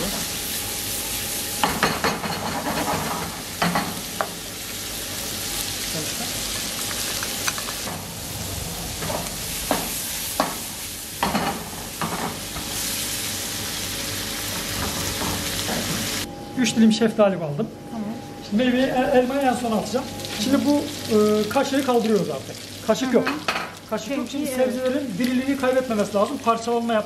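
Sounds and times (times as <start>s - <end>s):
beef sizzling in oil: 0.0s - 16.3s, 19.4s - 27.0s.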